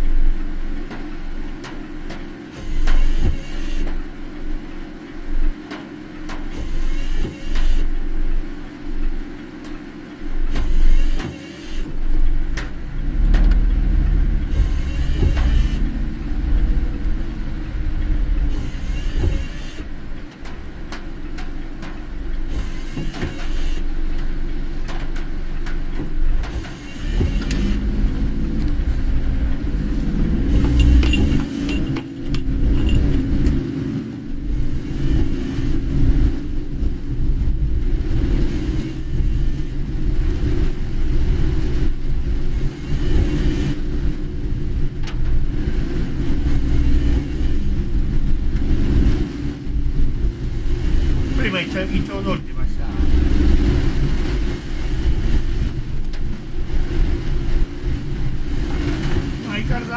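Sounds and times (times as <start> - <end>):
rain on a car: 0.0 - 30.9, 33.2 - 59.9
road and tyre rumble: 0.0 - 59.9.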